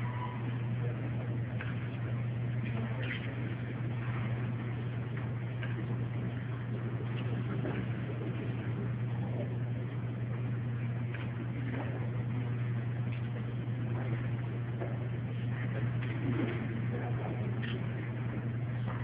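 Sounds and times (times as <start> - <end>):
room noise: 0.0 - 19.0
steady low hum: 0.0 - 19.0.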